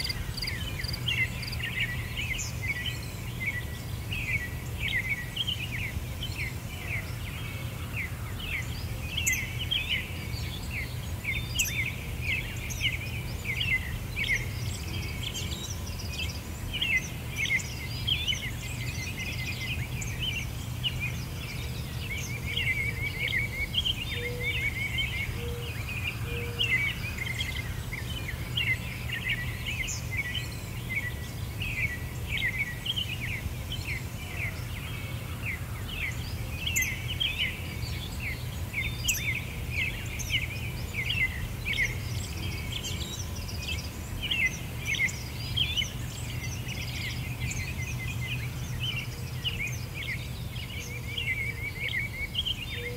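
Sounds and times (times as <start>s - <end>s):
small birds chirping and singing: 0.0s - 52.9s.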